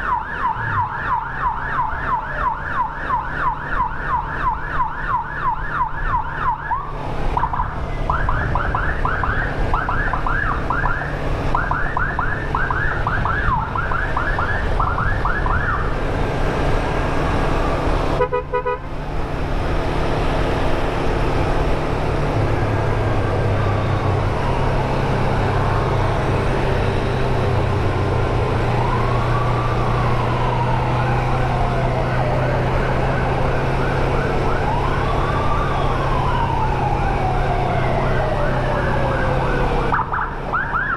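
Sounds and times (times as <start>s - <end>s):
emergency siren yelp and wail: 0.0s - 18.8s, 20.0s - 40.9s.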